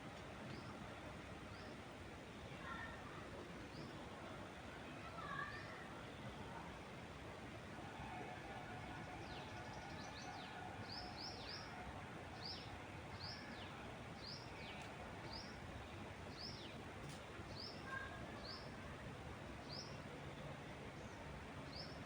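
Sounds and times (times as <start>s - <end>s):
wind in trees: 0.0s - 22.0s.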